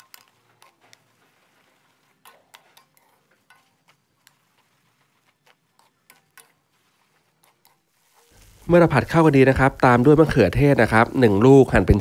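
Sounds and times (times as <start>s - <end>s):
low sizzle: 0.0s - 12.0s
spatula scraping a pan: 0.0s - 12.0s.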